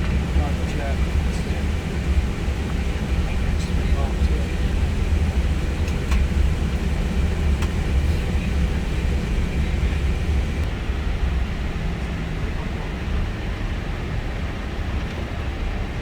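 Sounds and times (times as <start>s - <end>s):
aircraft rolling low rumble: 0.0s - 16.0s.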